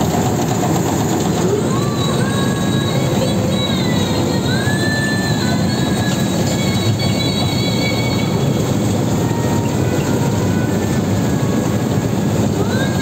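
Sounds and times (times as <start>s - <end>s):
harvester engine drone: 0.0s - 13.0s.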